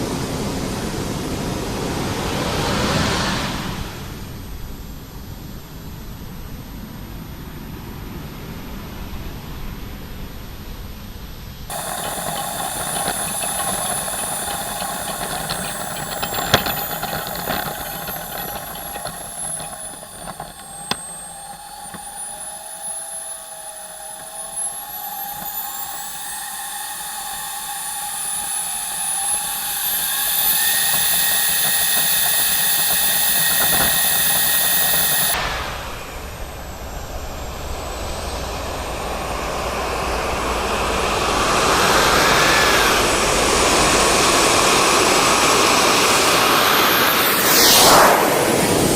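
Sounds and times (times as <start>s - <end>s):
jet turbine engine whine: 0.0s - 48.9s.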